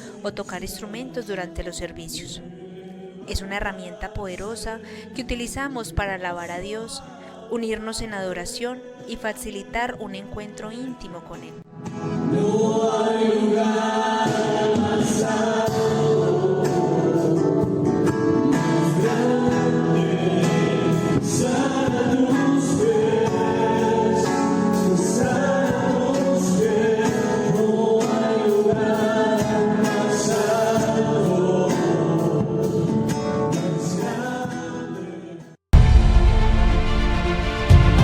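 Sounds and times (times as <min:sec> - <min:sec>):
choir singing with instruments: 0:00.0 - 0:05.2, 0:06.2 - 0:10.1, 0:10.7 - 0:38.0.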